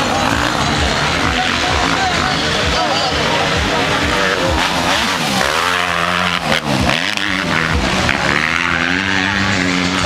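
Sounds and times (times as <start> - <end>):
dirt bike engine revving past: 0.0 - 10.0.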